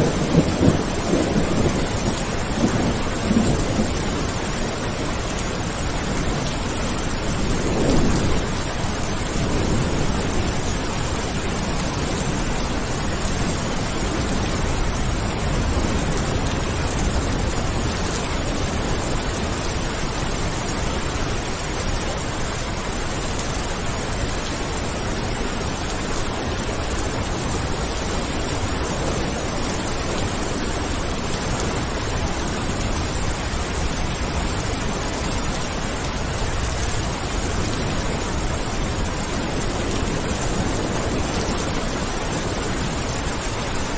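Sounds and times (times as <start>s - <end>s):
steady rain: 0.0s - 43.9s
thunder rumbling: 0.0s - 43.9s.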